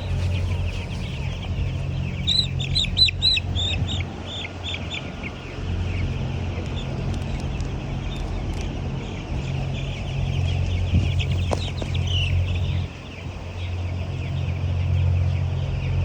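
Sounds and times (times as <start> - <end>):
chickens calling: 0.0 - 16.0
steady low hum: 0.0 - 16.0.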